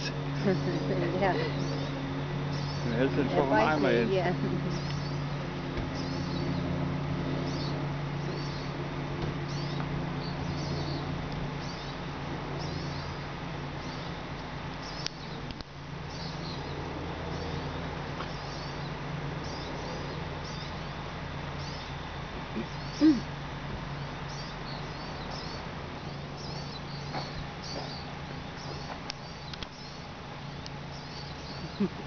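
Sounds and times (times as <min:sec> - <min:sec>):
bird chirping: 0:00.0 - 0:04.0, 0:04.6 - 0:06.8, 0:07.4 - 0:08.8, 0:09.4 - 0:14.2, 0:14.8 - 0:21.0, 0:24.2 - 0:32.0
steady low hum: 0:00.0 - 0:32.0.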